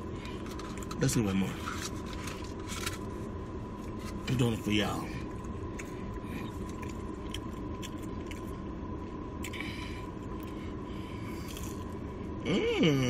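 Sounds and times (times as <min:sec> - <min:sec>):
low background rumble: 0:00.0 - 0:13.0
thin steady hum: 0:00.0 - 0:13.0.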